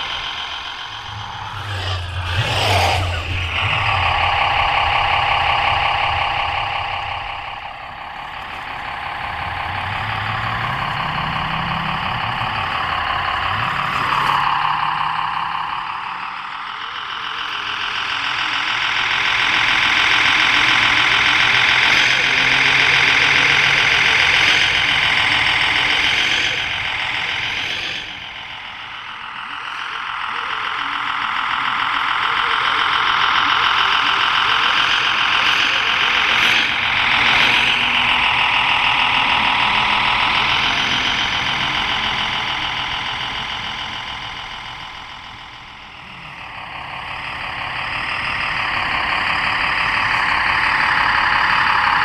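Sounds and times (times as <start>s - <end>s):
simulated diesel truck engine: 0.0s - 52.0s.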